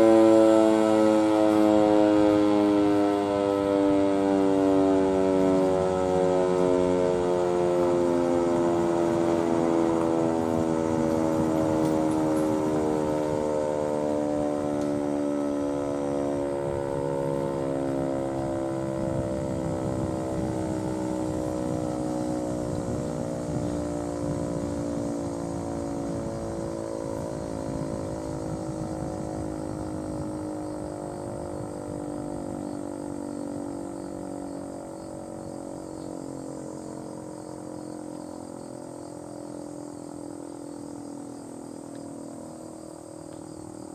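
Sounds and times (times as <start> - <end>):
warning siren winding down: 0.0 - 43.9.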